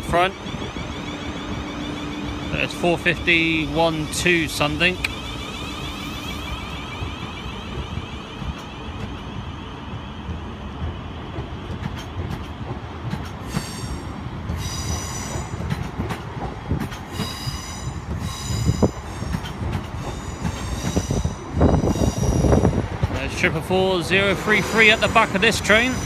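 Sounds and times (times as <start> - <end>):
train wheels squealing: 0.0 - 10.6, 13.4 - 16.0, 17.0 - 26.0
train rumble: 0.0 - 26.0.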